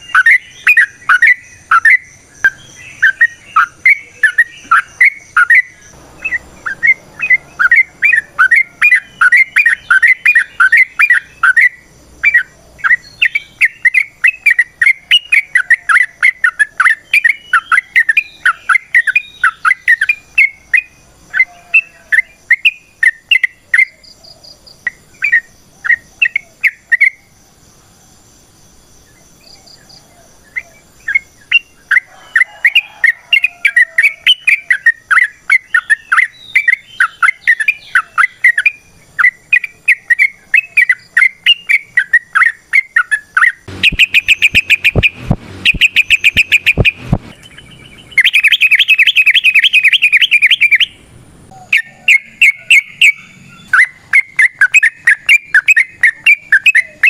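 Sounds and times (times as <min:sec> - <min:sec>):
bird chirping song: 0:00.0 - 0:57.0.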